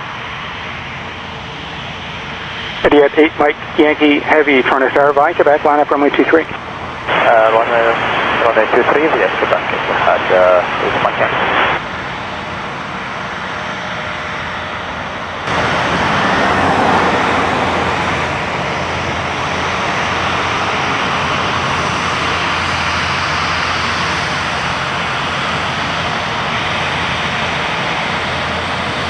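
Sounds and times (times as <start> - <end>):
jet airliner engine rushing: 0.0 - 29.0.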